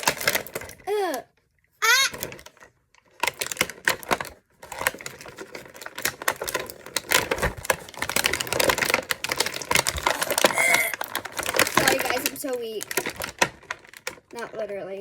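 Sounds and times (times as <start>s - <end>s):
plastic packaging crackling: 0.0s - 1.2s, 1.8s - 15.0s.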